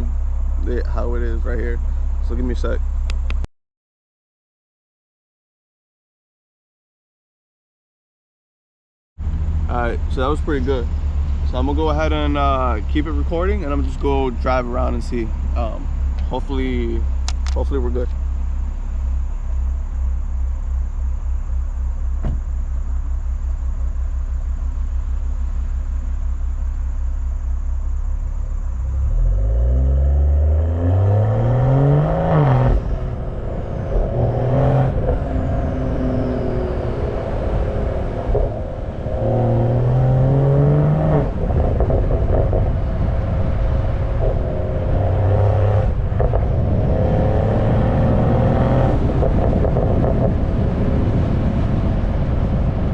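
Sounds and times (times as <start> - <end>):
car engine idling and accelerating: 0.0 - 3.5, 9.2 - 52.9.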